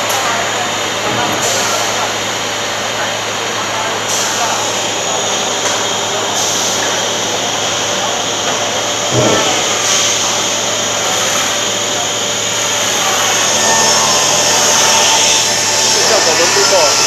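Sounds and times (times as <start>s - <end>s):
laminating machine motors humming: 0.0s - 17.0s.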